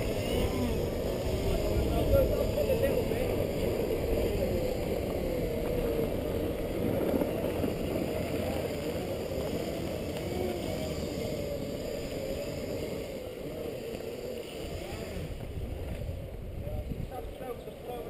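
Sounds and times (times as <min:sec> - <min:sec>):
electric drive whining: 0:00.0 - 0:16.6
tyres rumbling on dirt: 0:00.0 - 0:18.0.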